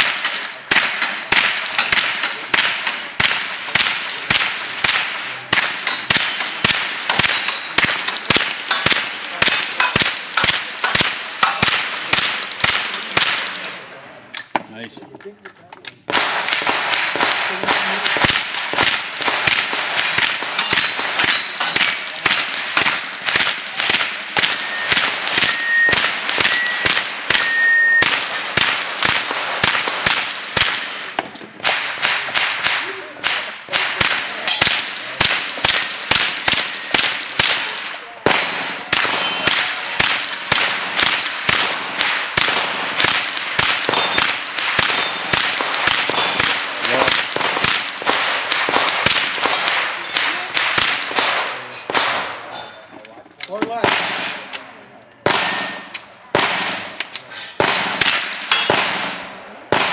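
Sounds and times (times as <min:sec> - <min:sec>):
rifle shots: 0:00.0 - 0:13.8, 0:16.1 - 0:52.5, 0:53.7 - 0:59.9
steel targets clanging: 0:00.0 - 0:14.6, 0:16.5 - 0:32.6, 0:33.2 - 0:54.7.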